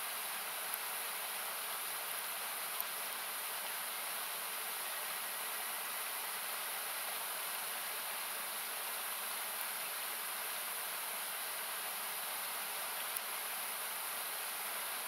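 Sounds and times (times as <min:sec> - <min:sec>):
river rushing: 0:00.0 - 0:15.0
campfire crackle: 0:00.1 - 0:15.0.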